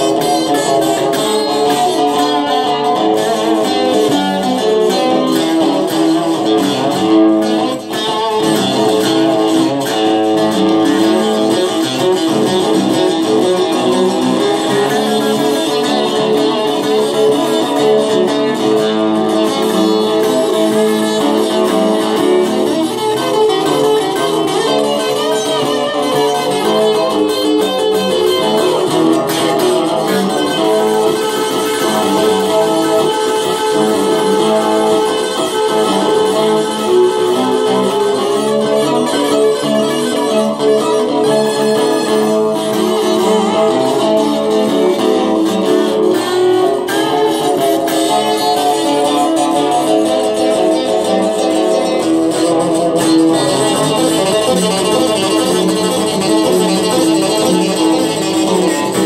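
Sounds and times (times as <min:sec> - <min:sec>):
acoustic guitar blues: 0:00.0 - 0:59.0.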